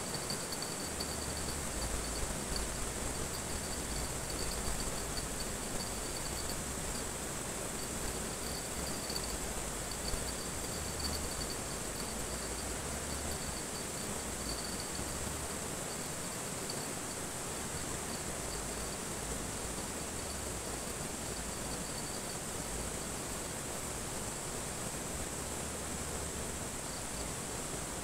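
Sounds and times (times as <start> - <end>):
insects chirring: 0.0 - 23.6
pulsing insect trill: 0.0 - 23.7, 26.7 - 27.4
flowing river: 0.0 - 28.0.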